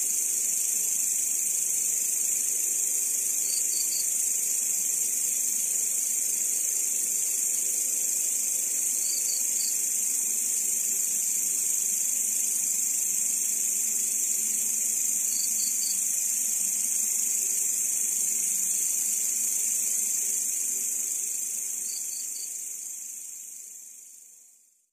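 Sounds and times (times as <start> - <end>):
quick insect chirps: 2.9 - 24.4.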